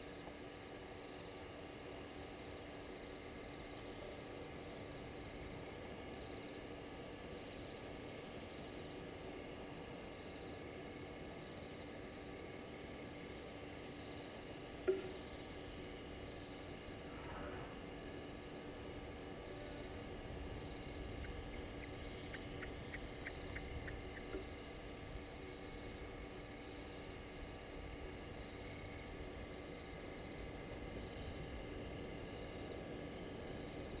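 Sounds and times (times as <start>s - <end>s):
crickets trilling: 0.0s - 34.0s.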